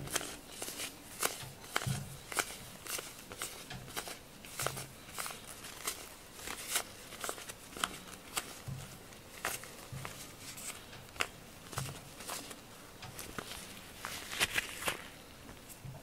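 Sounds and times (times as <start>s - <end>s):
rubber glove clicks and crackles: 0.0s - 15.8s.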